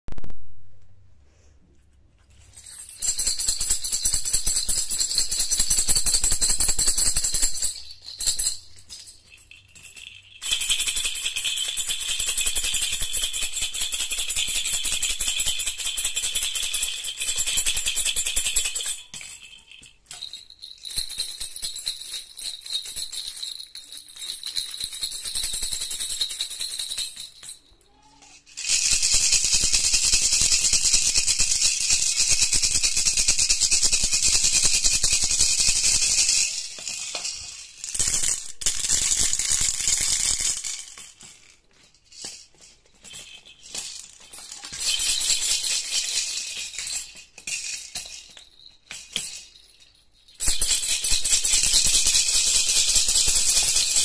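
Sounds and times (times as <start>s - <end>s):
plastic baby rattles shaken: 2.4s - 54.0s.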